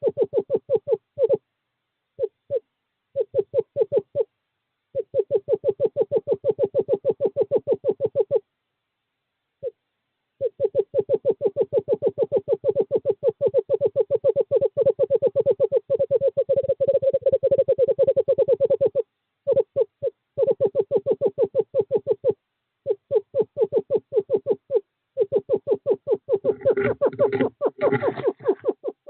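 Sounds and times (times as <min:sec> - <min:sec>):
screech owl trilling: 0:00.0 - 0:01.4, 0:02.2 - 0:04.3, 0:05.0 - 0:08.4, 0:10.4 - 0:29.0.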